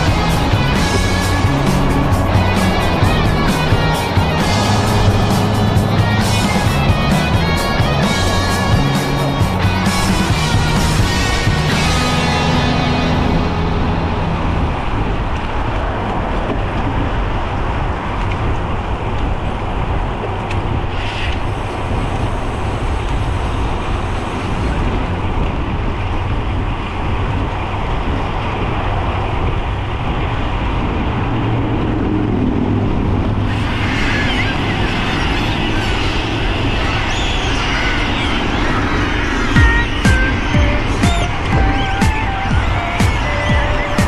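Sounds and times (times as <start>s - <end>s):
bicycle road noise: 0.0s - 44.0s
motor traffic passing: 0.0s - 44.0s
rushing wind: 0.0s - 44.0s.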